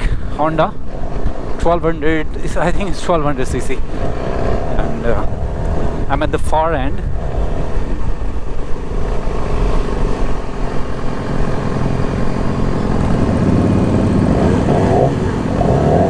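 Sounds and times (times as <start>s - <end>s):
heavy uneven low rumble: 0.0s - 16.0s
motorcycle engine drone: 0.0s - 16.0s.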